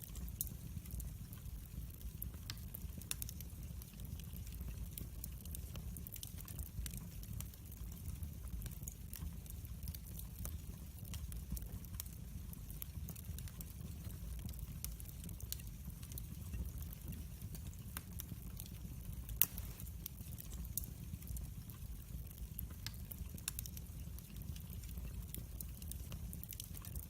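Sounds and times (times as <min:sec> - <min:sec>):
fire crackles and pops: 0:00.0 - 0:27.0
fire rumbling in fireplace: 0:00.0 - 0:27.0.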